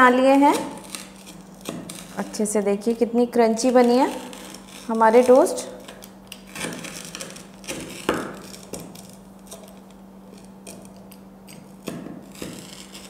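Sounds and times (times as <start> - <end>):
low steady hum: 0.0 - 13.0
pizza cutter crunching through toast: 0.2 - 2.4, 3.5 - 13.0.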